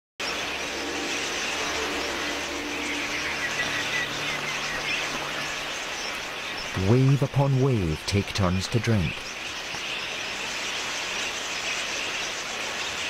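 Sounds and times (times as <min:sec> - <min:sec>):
budgerigars chattering: 0:00.2 - 0:13.0.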